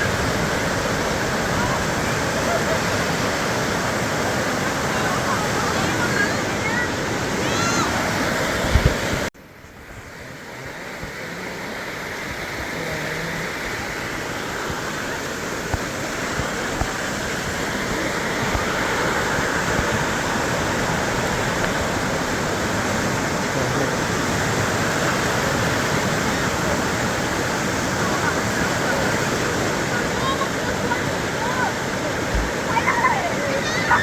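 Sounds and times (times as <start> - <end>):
waterfall rushing over rock: 0.0 - 34.0.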